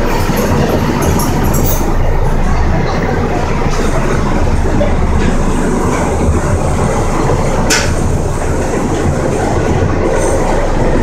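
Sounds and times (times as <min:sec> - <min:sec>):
rumble of wheels on rails: 0:00.0 - 0:11.0.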